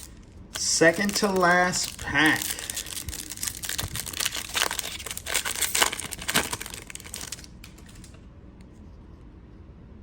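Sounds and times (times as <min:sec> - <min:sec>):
card wrapper crinkling: 0:00.0 - 0:08.2.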